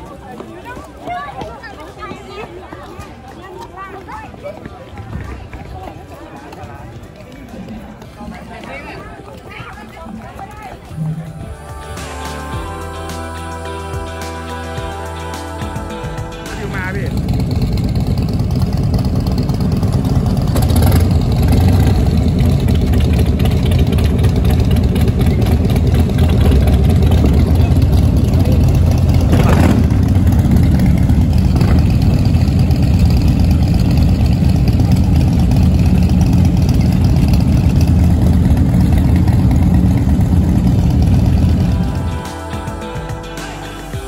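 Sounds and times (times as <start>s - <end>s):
motorcycle engines idling: 2.8s - 44.0s.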